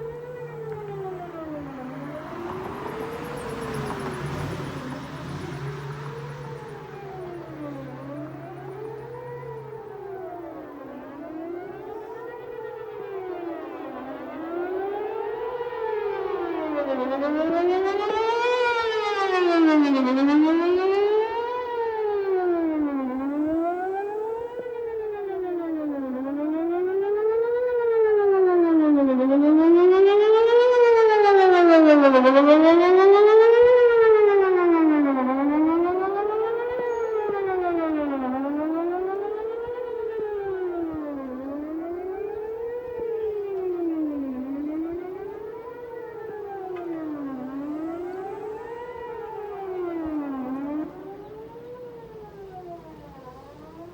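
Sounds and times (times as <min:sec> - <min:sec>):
outdoor warning siren wailing: 0:00.0 - 0:53.9.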